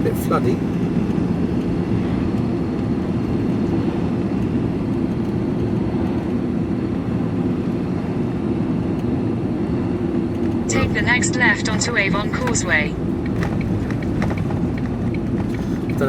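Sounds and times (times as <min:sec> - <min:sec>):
engine and road noise in van: 0:00.0 - 0:16.0.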